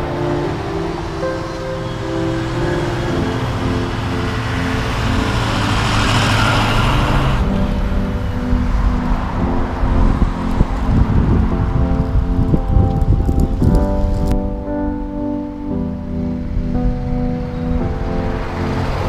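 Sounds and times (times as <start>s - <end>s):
vehicle passing close: 0.0s - 13.2s, 16.4s - 19.0s
background music: 0.0s - 19.0s
low traffic rumble: 0.0s - 19.0s.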